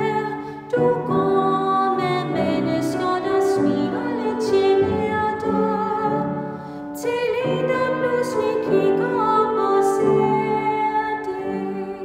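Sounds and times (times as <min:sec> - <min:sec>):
piano accompaniment: 0:00.0 - 0:12.0
woman singing a hymn: 0:00.0 - 0:12.0.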